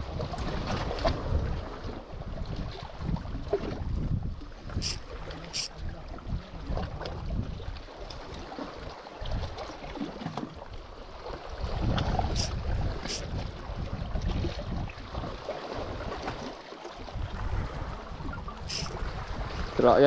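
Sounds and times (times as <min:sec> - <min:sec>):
sea water washing against rocks: 0:00.0 - 0:20.0
wind buffeting microphone: 0:00.0 - 0:20.0.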